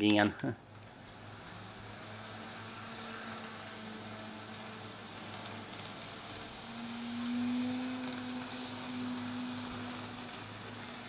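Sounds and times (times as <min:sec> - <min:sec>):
model train motor whine: 0:00.0 - 0:11.0
wheels rolling on rails: 0:00.0 - 0:11.0.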